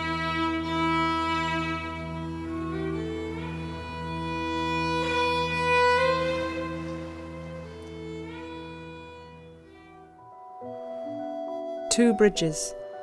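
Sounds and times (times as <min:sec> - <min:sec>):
orchestral music with bowed strings: 0:00.0 - 0:13.0.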